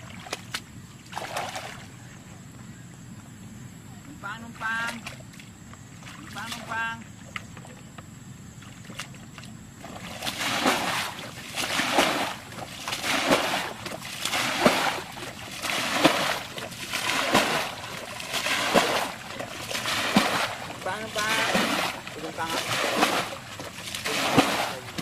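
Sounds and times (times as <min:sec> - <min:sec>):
bucket scooping water splashes: 0:00.0 - 0:02.1, 0:04.6 - 0:25.0.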